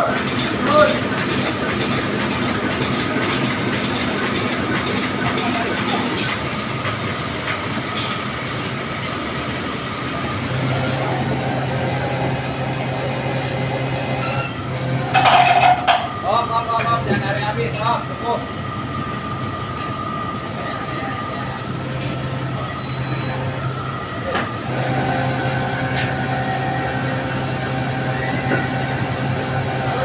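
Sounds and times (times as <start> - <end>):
heavy machinery rumbling: 0.0 - 17.8, 20.6 - 30.0.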